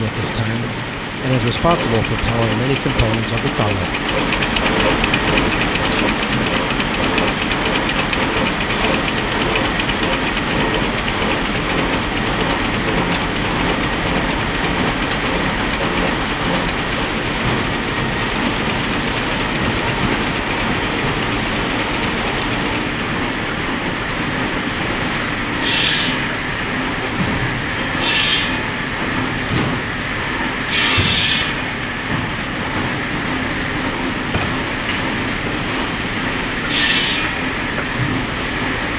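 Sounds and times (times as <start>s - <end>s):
sawmill machinery clattering: 0.0s - 38.9s.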